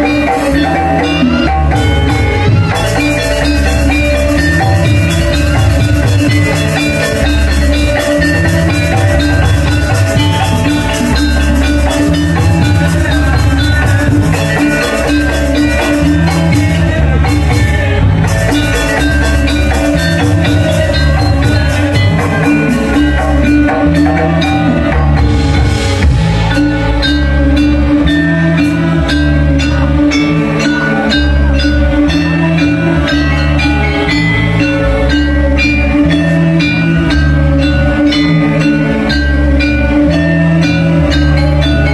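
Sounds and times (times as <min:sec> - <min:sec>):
repeating drum beat: 0:00.0 - 0:41.9
ringing metallophones: 0:00.0 - 0:41.9.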